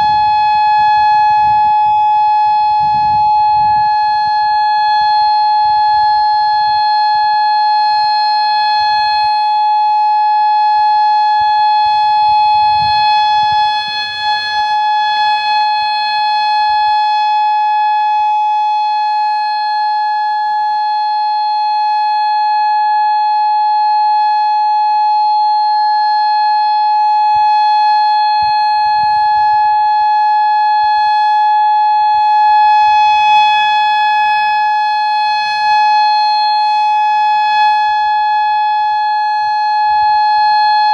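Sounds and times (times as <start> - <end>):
electronic siren steady tone: 0.0 - 40.9.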